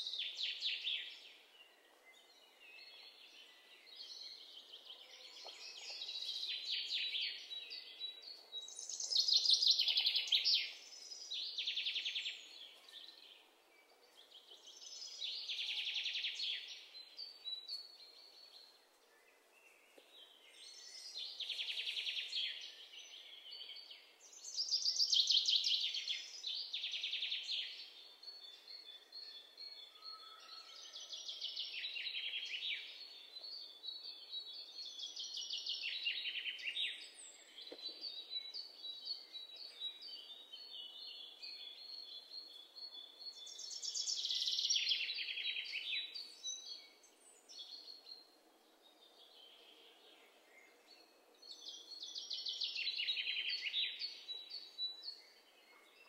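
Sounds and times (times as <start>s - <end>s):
faint bird chirping: 0.0s - 56.0s.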